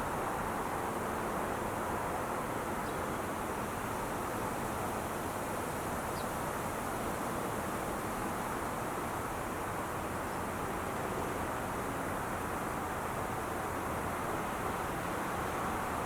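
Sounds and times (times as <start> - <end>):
freeway traffic hiss: 0.0 - 16.0.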